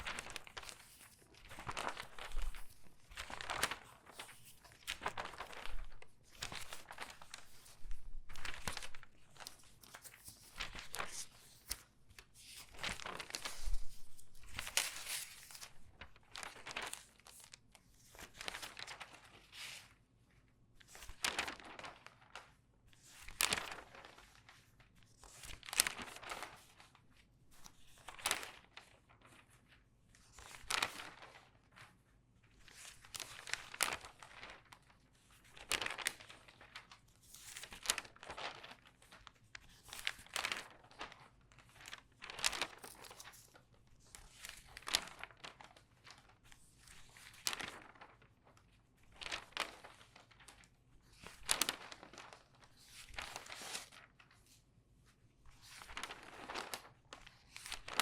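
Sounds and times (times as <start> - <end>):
newspaper pages rustling: 0.0 - 58.0.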